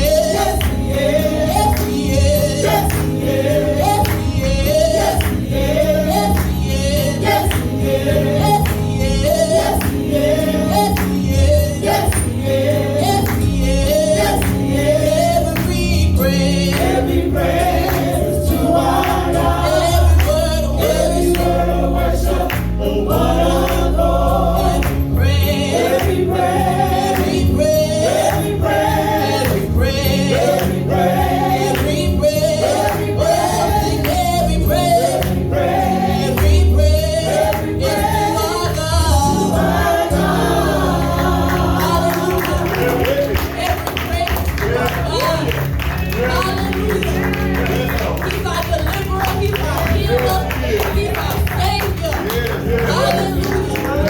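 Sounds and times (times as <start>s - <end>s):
band playing: 0.0s - 54.0s
choir singing gospel: 0.0s - 54.0s.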